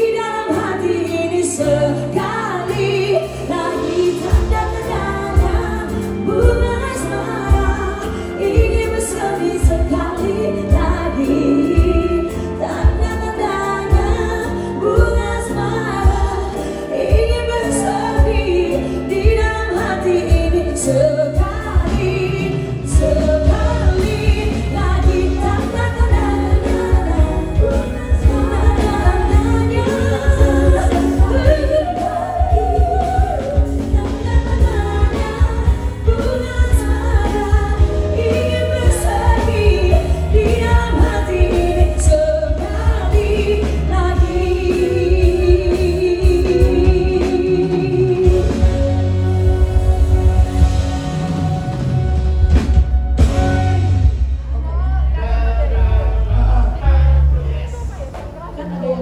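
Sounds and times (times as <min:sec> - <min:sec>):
woman singing pop song: 0:00.0 - 0:49.0
live band playing: 0:00.0 - 0:59.0.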